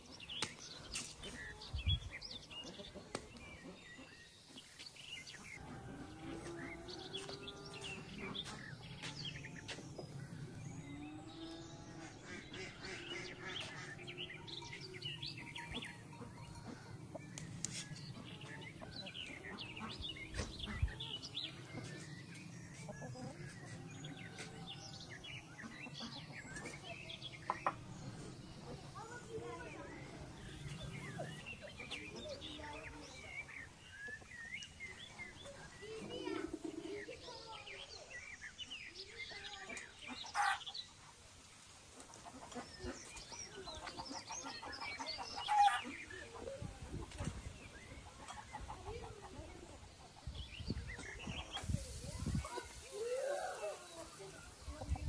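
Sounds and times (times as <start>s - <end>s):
chickens clucking: 0.0s - 38.6s, 39.3s - 55.0s
small birds chirping: 0.0s - 55.0s.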